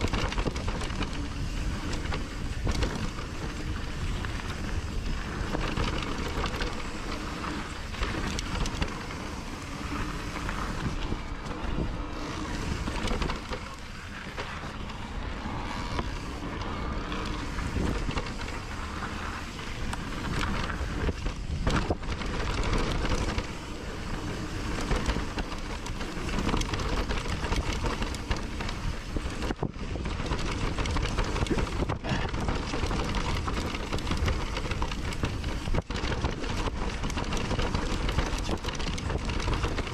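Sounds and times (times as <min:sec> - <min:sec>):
bike knocking and rattling: 0:00.0 - 0:39.9
tyres rushing on dirt: 0:00.0 - 0:39.9.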